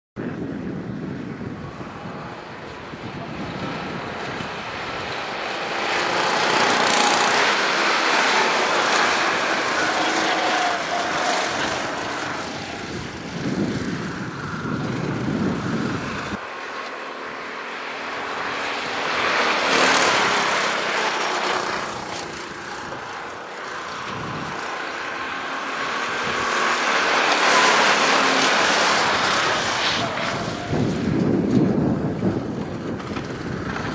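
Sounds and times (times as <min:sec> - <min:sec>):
go-kart engines buzzing past: 0:00.3 - 0:33.9.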